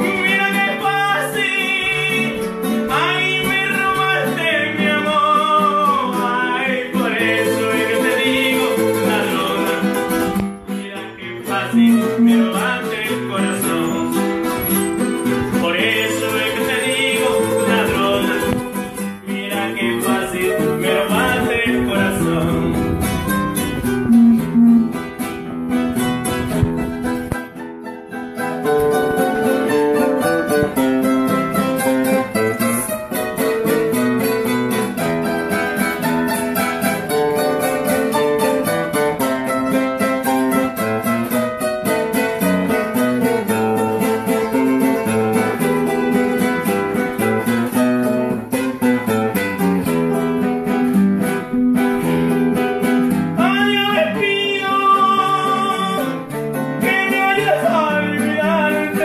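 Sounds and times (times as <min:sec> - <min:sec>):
acoustic guitars playing: 0:00.0 - 0:59.0.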